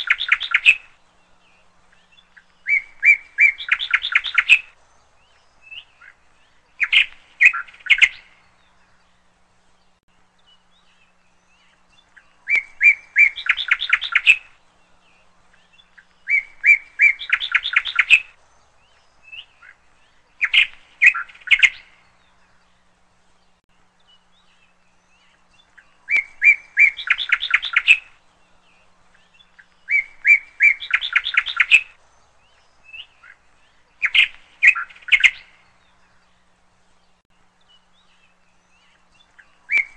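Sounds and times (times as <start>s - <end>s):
bird chirping in trills: 0.0s - 39.9s.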